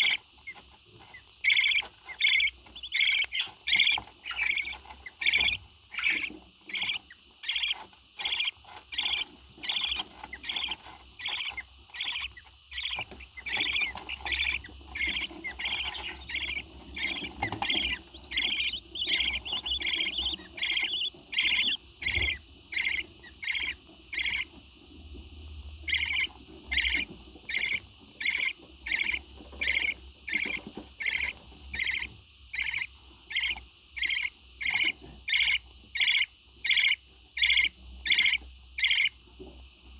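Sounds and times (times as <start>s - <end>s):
parrot chirping: 0.0s - 39.3s.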